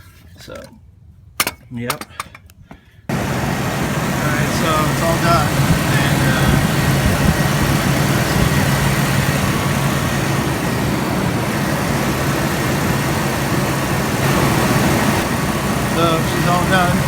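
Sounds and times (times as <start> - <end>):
car engine idling: 3.1 - 17.0.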